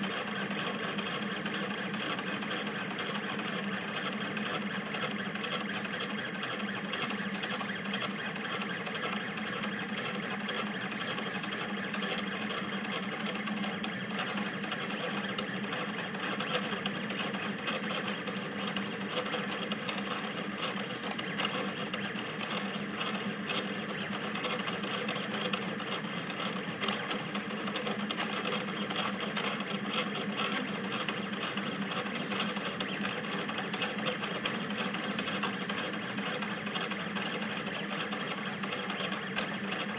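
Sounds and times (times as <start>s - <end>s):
three d printer stepper motors whirring: 0.0s - 39.9s.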